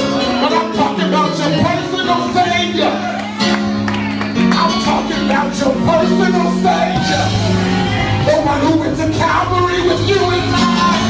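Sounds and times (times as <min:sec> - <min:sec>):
bass notes: 0:00.0 - 0:11.0
live music with singing: 0:00.0 - 0:11.0.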